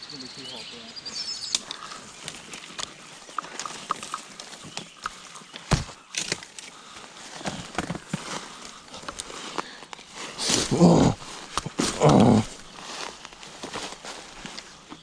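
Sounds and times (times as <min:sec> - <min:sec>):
brush rustling: 0:01.5 - 0:15.0
footsteps crunching through dry leaves: 0:01.7 - 0:15.0.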